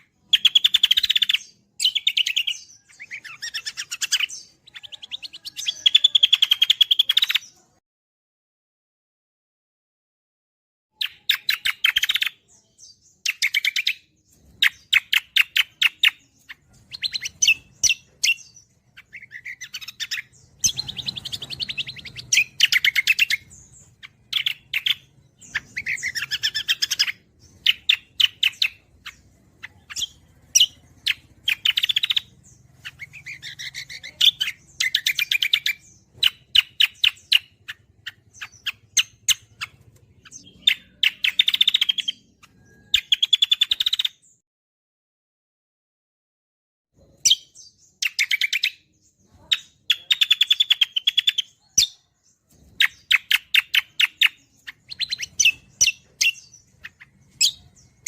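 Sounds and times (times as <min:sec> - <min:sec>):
songbird chattering trills: 0:00.0 - 0:07.6, 0:11.0 - 0:44.2, 0:47.0 - 0:58.0.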